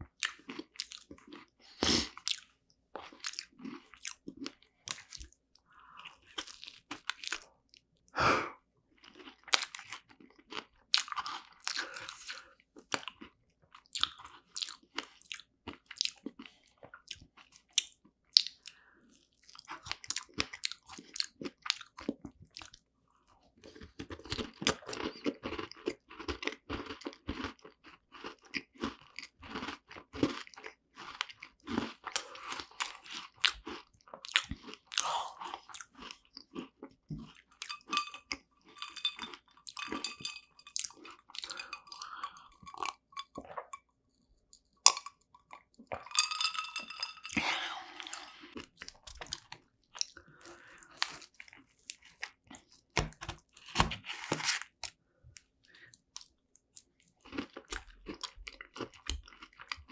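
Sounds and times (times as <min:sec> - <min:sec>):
chewing with crisp crunches: 0:00.0 - 0:07.9, 0:08.9 - 0:59.9.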